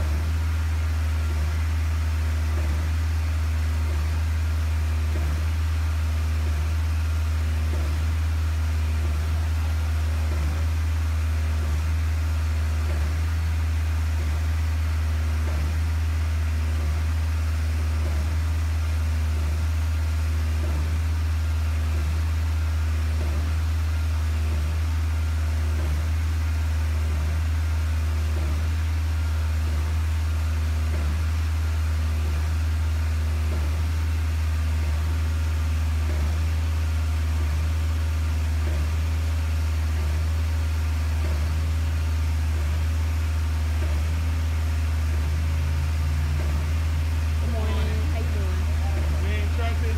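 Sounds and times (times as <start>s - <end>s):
concrete pump droning: 0.0s - 49.9s.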